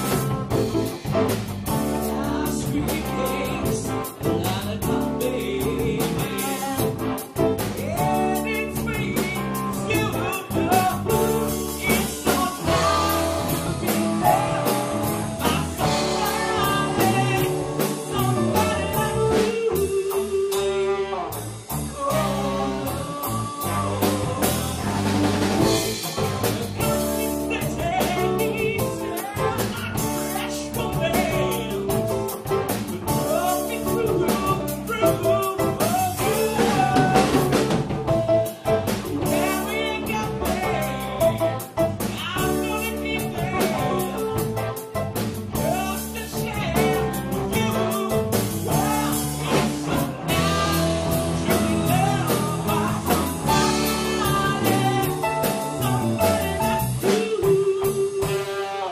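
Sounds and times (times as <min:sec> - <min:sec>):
drum kit: 0:00.0 - 0:58.9
electric guitar: 0:00.0 - 0:58.9
person singing: 0:00.0 - 0:58.9.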